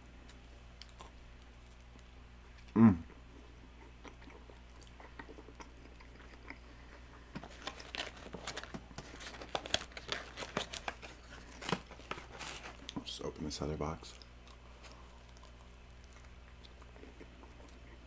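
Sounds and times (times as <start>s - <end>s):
chewing and biting sandwich: 0.3s - 13.1s, 14.1s - 18.0s.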